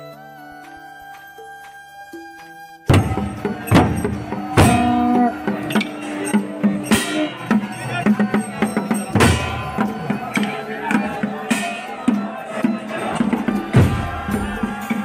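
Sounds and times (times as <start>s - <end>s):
barrel drums beaten: 2.9s - 15.0s.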